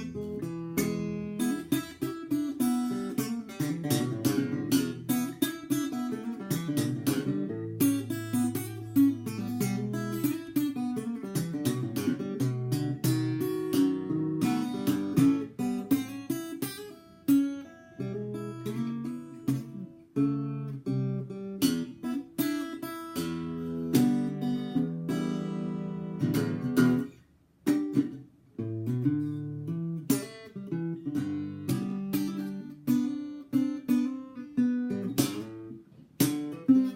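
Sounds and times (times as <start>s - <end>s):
acoustic guitar playing: 0.0s - 36.9s.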